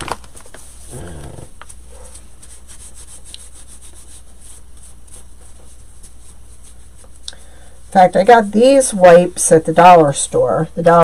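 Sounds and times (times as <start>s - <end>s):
wipe rubbing gloved hands: 0.4s - 10.7s.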